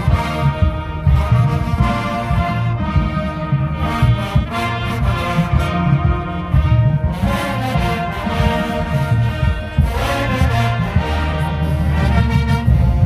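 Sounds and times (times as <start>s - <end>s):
brass section playing: 0.0s - 13.0s
drumline pounding: 0.0s - 13.0s.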